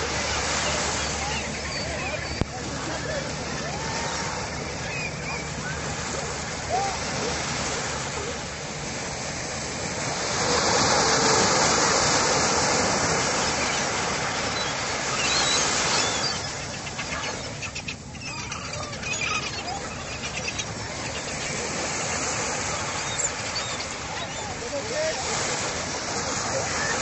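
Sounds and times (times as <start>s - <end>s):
seagull calls: 0.0s - 8.4s, 10.0s - 27.0s
surf washing onto beach: 0.0s - 27.0s.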